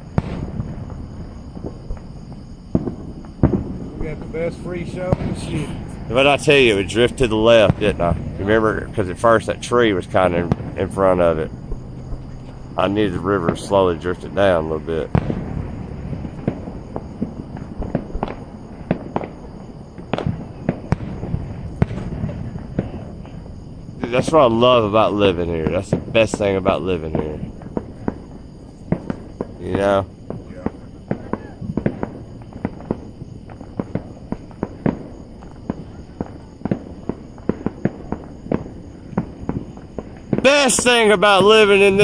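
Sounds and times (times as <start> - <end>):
fireworks exploding: 0.0 - 42.0.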